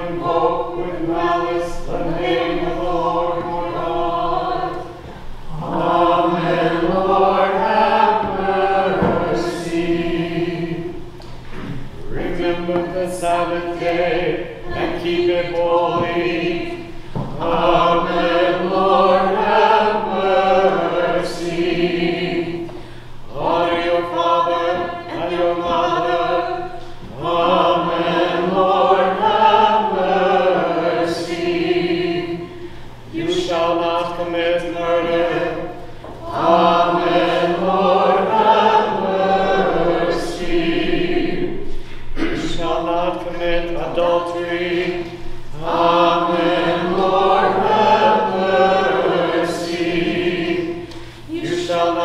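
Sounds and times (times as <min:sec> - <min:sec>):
church choir singing: 0:00.0 - 0:52.0.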